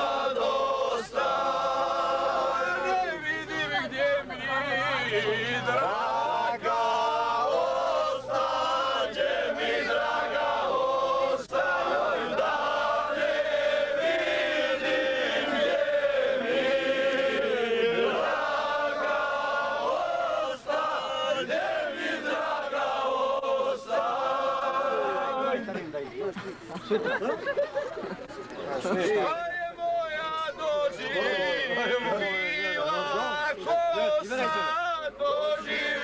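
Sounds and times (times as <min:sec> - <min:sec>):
men singing in unison: 0:00.0 - 0:25.8, 0:29.9 - 0:36.0.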